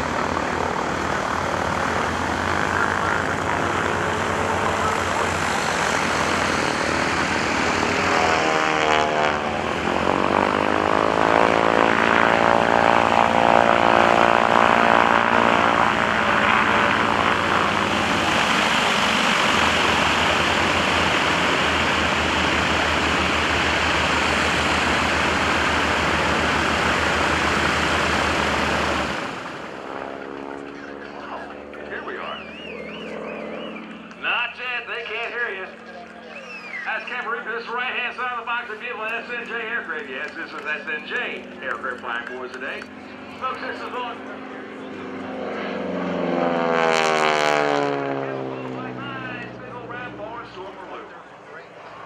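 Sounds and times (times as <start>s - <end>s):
propeller plane engine droning: 0.0s - 52.0s.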